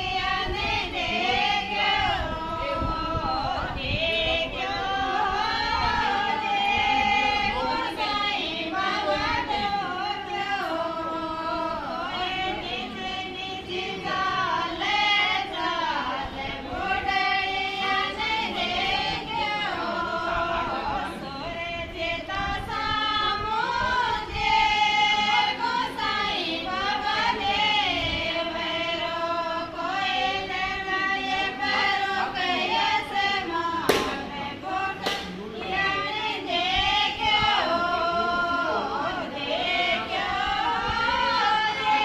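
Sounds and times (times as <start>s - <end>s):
women singing unaccompanied: 0.0s - 42.0s.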